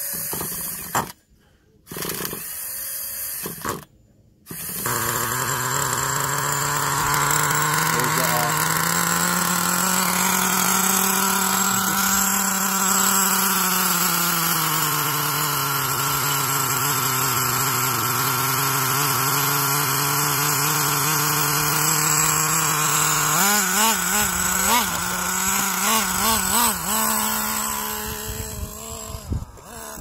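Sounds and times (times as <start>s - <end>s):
small nitro engine idling: 4.5s - 30.0s.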